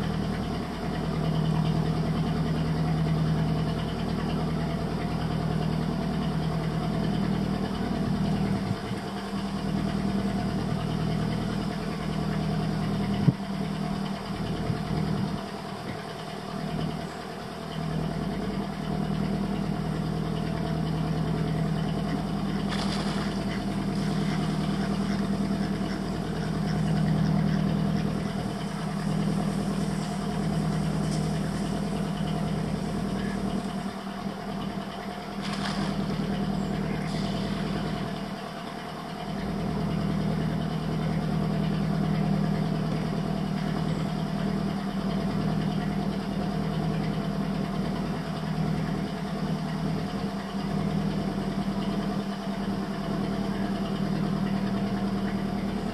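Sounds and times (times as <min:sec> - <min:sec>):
boat motor humming: 0:00.0 - 0:55.9.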